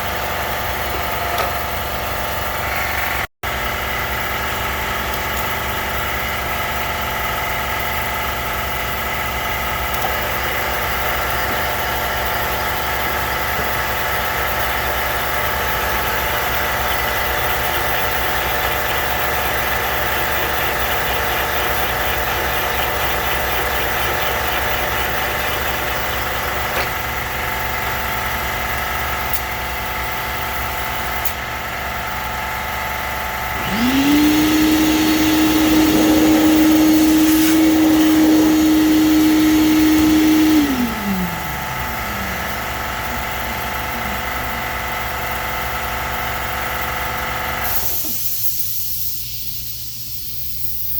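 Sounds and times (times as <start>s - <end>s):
motor spinning up with whine: 0.0s - 31.2s, 31.9s - 49.1s
cylinder head machine running: 0.0s - 48.2s.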